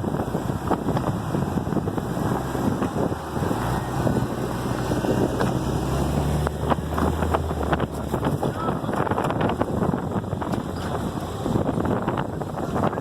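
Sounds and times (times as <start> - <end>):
tires crawling over rock: 0.0 - 13.0
vehicle engine revving: 0.0 - 13.0
wind on microphone: 0.0 - 13.0.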